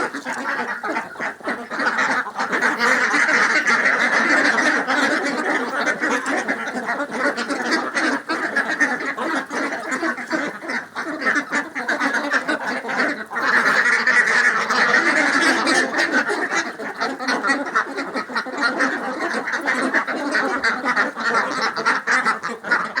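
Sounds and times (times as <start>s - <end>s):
ducks quacking: 0.0s - 23.0s.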